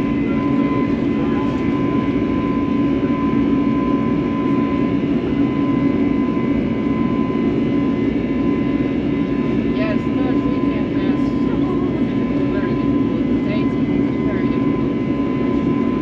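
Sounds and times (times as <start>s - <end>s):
airplane cabin engine drone: 0.0s - 16.0s.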